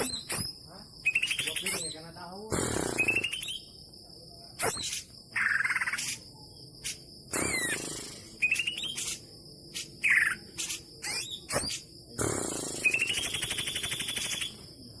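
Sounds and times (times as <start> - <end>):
bird singing chirps and trills: 0.0 - 3.8, 4.6 - 14.8.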